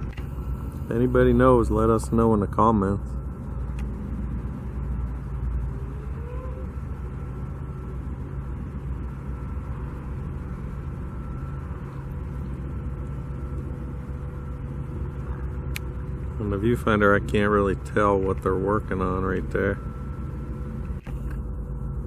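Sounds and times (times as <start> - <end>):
distant engines and machinery rumble: 0.0 - 22.0
faint steady whine: 0.0 - 22.0.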